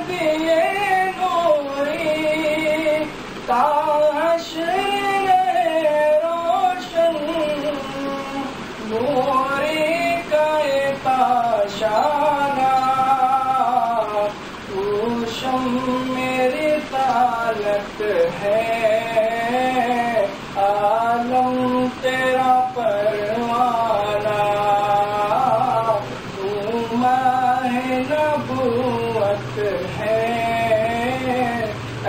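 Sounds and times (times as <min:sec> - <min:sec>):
man singing unaccompanied: 0:00.0 - 0:32.0.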